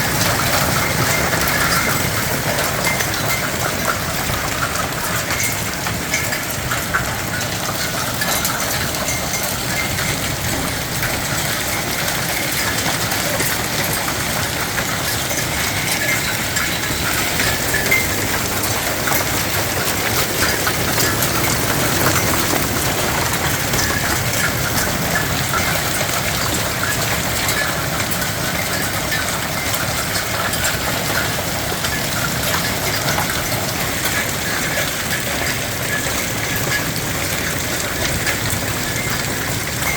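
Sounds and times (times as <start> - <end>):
hailstones pelting down: 0.0 - 39.9.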